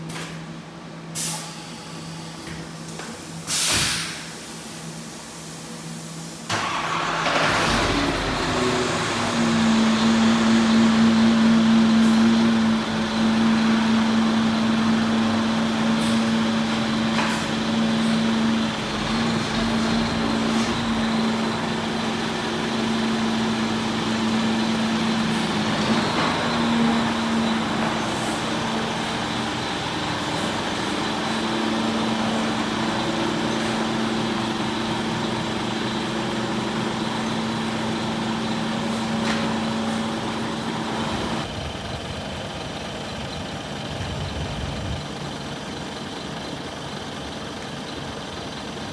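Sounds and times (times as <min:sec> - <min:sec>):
diesel truck engine running: 0:05.9 - 0:48.9.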